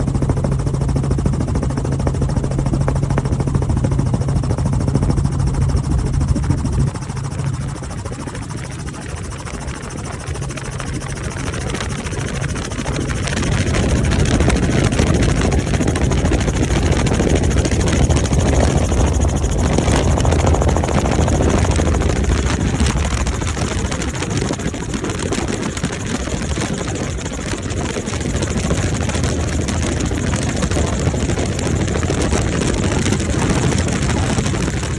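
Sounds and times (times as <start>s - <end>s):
helicopter flying: 0.0s - 34.9s.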